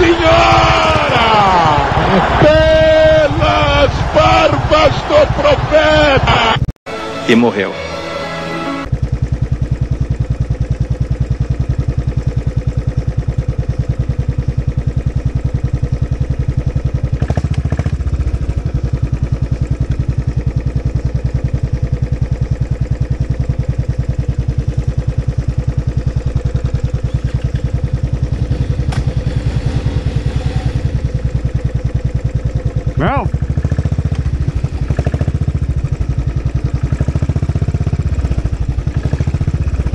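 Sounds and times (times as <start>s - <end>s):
motorcycle engine idling: 0.0s - 6.6s, 8.8s - 39.9s.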